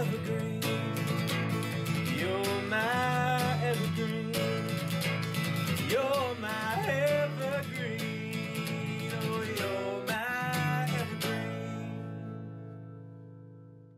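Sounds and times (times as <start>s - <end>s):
strummed acoustic guitar: 0.0s - 13.9s.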